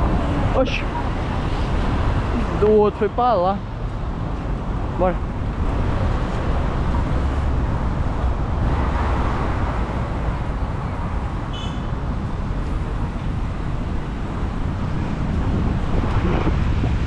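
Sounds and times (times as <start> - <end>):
road traffic noise: 0.0 - 17.0
wind rumble on microphone: 0.0 - 17.0.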